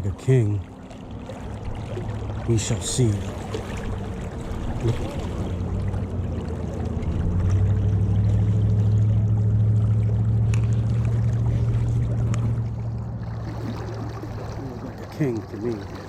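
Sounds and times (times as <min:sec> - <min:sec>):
low motor hum: 0:00.0 - 0:16.0
rushing river water: 0:00.0 - 0:16.0.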